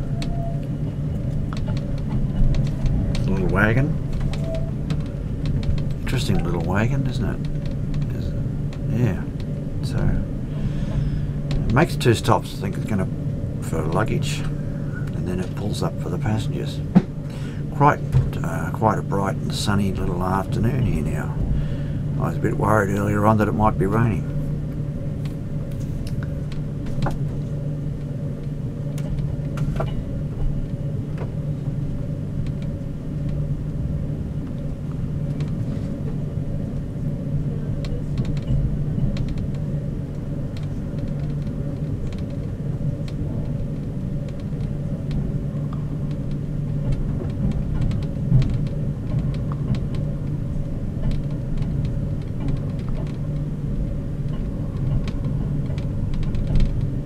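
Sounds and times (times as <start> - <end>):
train carriage rumble: 0.0 - 57.0.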